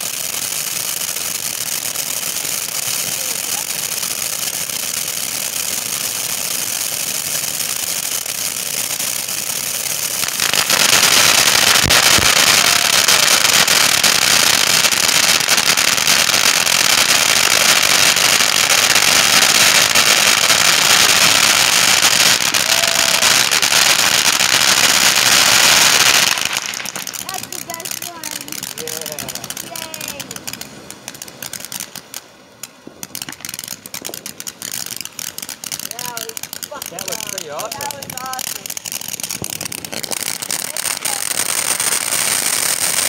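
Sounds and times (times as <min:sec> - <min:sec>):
firework fountains hissing and crackling: 0:00.0 - 0:43.0.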